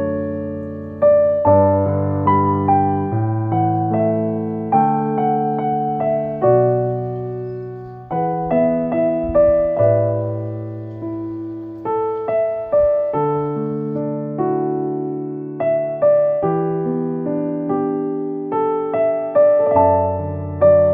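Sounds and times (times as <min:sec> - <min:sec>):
slow gentle piano piece: 0:00.0 - 0:20.9.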